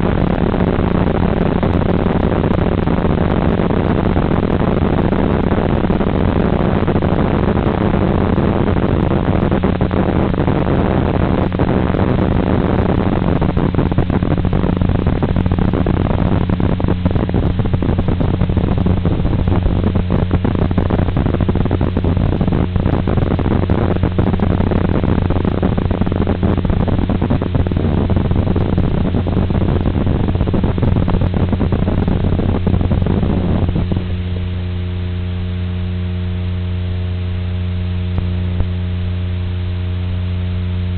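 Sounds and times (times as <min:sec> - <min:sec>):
rushing noise with crackles: 0:00.0 - 0:40.9
steady electrical buzz: 0:00.0 - 0:40.9.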